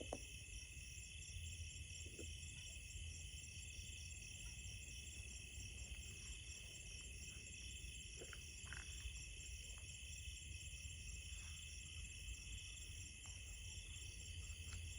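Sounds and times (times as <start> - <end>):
crickets and insects trilling: 0.0 - 14.9.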